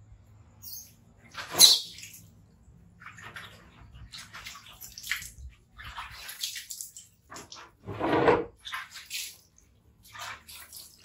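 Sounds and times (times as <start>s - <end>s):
water splashing and dripping: 0.9s - 11.0s.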